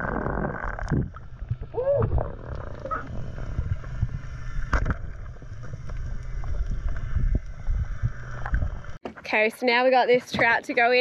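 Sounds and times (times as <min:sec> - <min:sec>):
muffled underwater rumble: 0:00.0 - 0:09.0.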